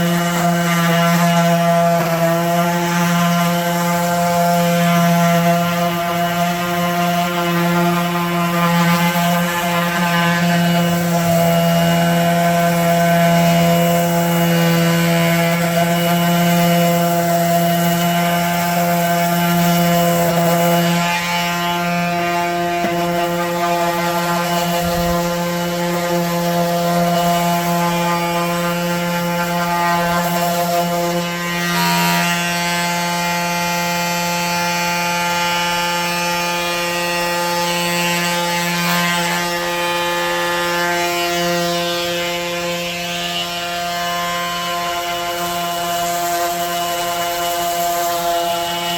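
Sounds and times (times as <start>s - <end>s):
electric sander motor hum: 0.0s - 48.9s
sanding pad scratching wood: 0.0s - 48.9s.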